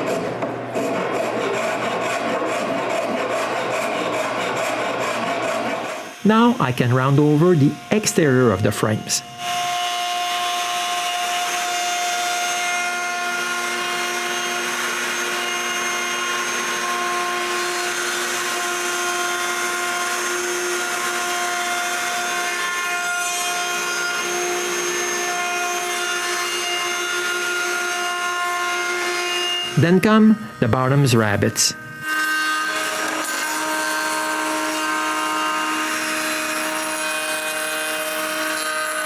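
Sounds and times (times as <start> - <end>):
router cutting wood: 0.0 - 39.0.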